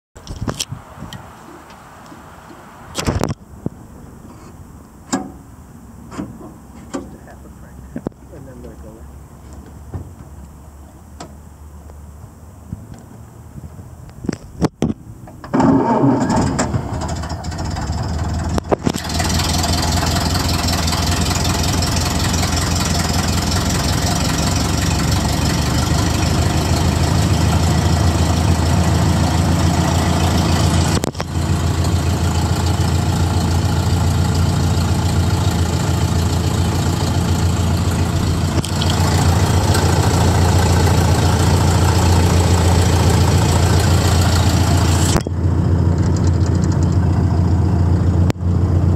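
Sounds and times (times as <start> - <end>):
car engine starting and idling: 1.4 - 48.9.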